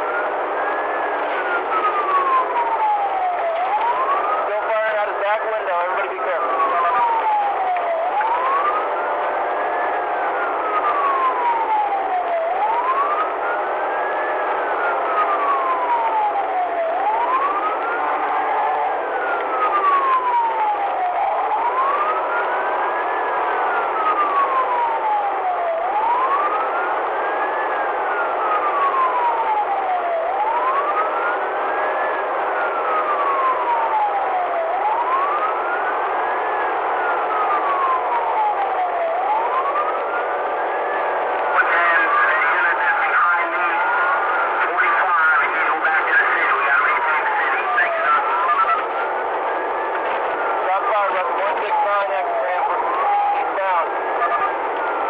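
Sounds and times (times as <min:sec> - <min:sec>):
engine and road noise: 0:00.0 - 0:55.0
police siren wailing: 0:00.0 - 0:55.0.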